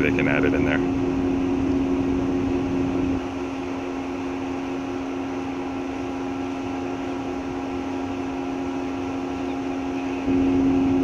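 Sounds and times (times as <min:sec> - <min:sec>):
ship machinery drone: 0:00.0 - 0:11.0.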